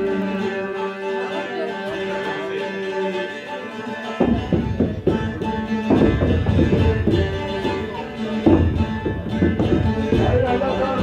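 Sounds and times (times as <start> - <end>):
plucked lute music with strumming: 0.0 - 11.0.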